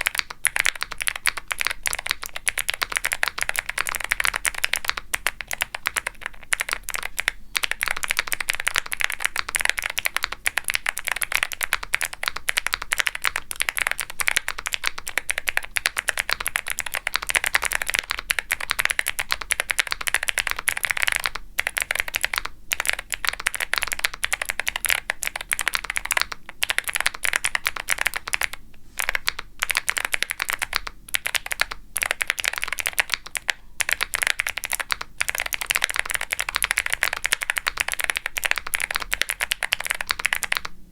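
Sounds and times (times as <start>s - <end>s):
clicky mechanical keyboard typing: 0.0s - 40.8s.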